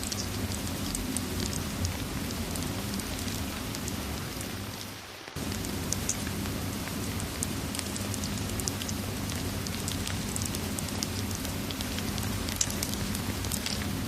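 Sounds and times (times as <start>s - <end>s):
rain hissing: 0.0s - 14.0s
wood fire crackling and popping: 0.0s - 14.0s.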